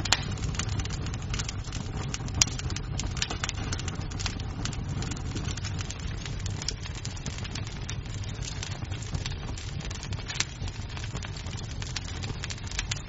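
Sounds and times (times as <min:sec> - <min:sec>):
burning wood popping: 0:00.0 - 0:13.0
fire flames rumbling: 0:00.0 - 0:13.0.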